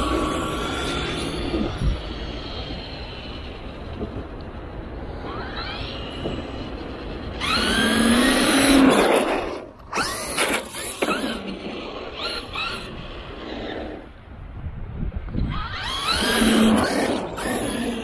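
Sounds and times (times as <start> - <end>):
electric rc truck motor whine: 0.0 - 14.2, 15.2 - 18.0.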